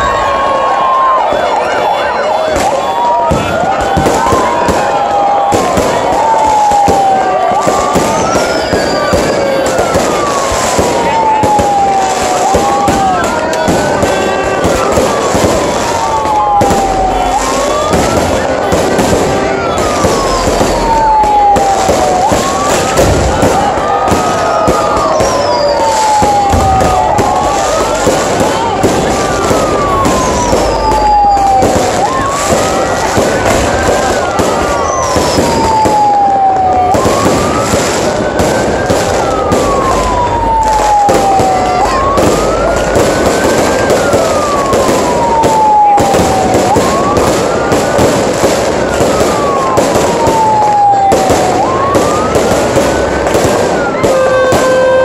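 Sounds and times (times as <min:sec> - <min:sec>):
fireworks crackling and banging: 0:00.0 - 0:55.0
siren-like wail: 0:00.0 - 0:55.0.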